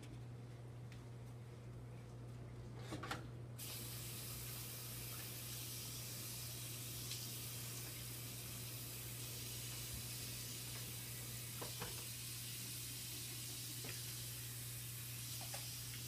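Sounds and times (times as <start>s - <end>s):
room noise hum and hiss: 0.0s - 16.0s.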